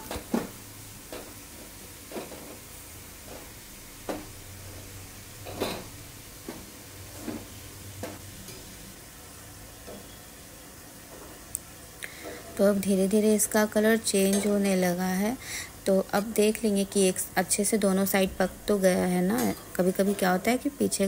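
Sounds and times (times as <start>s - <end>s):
oil sizzling while deep-frying: 0.0s - 21.0s.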